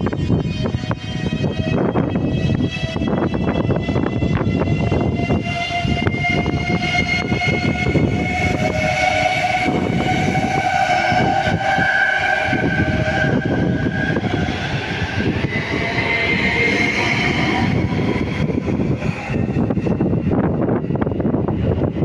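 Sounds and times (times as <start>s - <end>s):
high whining tone: 0.0s - 22.0s
train wheels rumbling on rails: 0.0s - 22.0s.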